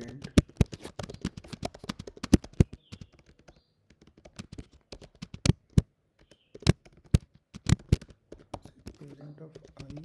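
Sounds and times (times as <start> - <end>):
typing on a computer keyboard: 0.0 - 10.0.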